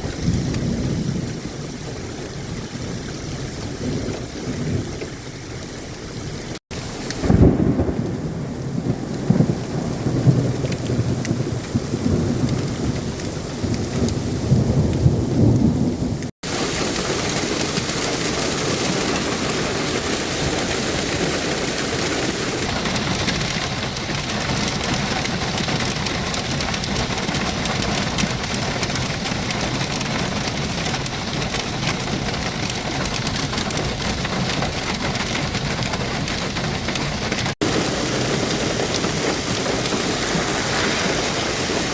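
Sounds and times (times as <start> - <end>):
heavy rain: 0.0 - 41.9
thunder rumbling: 0.0 - 41.9.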